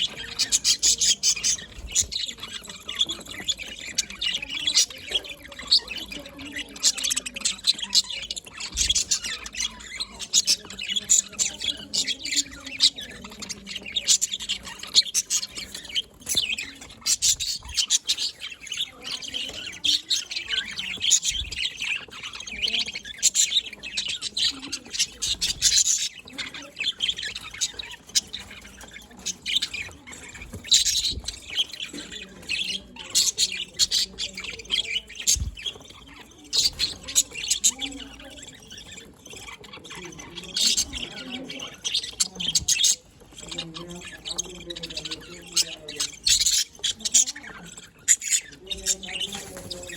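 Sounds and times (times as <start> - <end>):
budgerigars chirping: 0.0 - 49.9.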